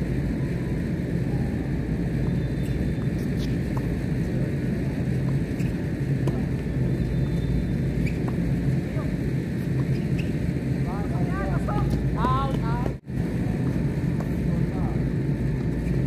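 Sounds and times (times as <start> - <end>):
low rumble with hum: 0.0 - 16.0.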